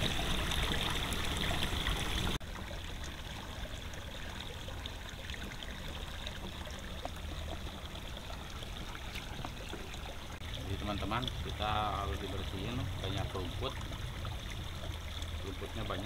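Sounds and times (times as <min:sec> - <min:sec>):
water gushing into a pond: 0:00.0 - 0:16.0.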